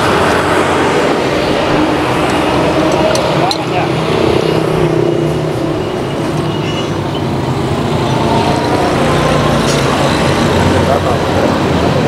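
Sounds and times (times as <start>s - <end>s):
vehicles passing with engine rumble: 0.0s - 12.0s.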